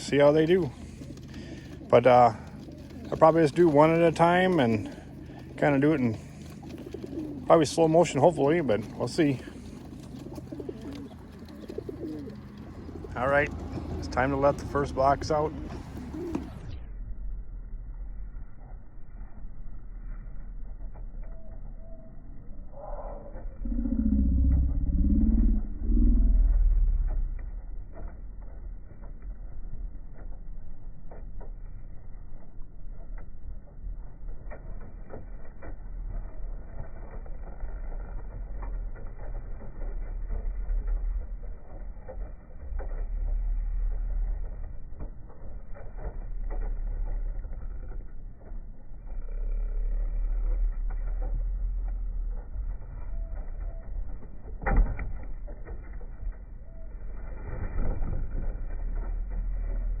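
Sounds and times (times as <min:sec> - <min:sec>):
pigeon wings fluttering: 0:00.0 - 0:16.7, 0:18.2 - 1:00.0
low rumble: 0:11.2 - 1:00.0.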